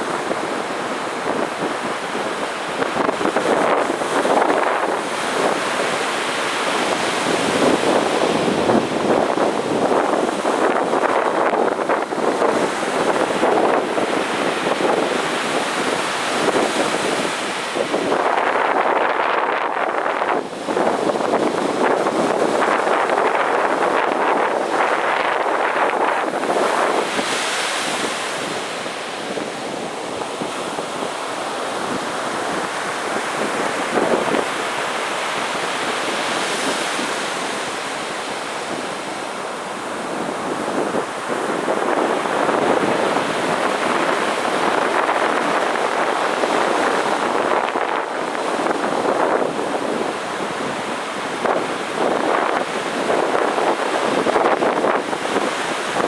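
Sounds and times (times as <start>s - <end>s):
sea waves breaking on beach: 0.0s - 56.0s
wind noise on microphone: 0.0s - 56.0s.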